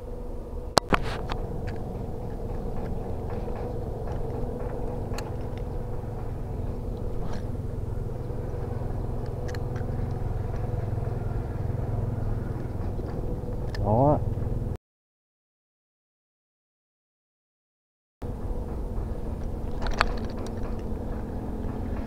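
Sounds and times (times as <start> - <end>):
vehicle engine running: 0.0 - 14.8, 18.2 - 22.0.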